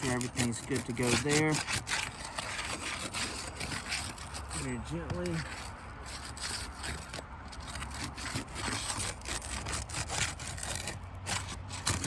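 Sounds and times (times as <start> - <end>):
rough scraping of roof shingle: 0.0 - 12.0.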